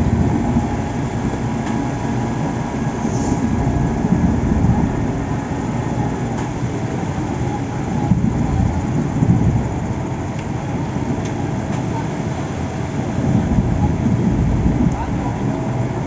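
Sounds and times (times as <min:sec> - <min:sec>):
heavy construction machinery rumbling: 0:00.0 - 0:16.0.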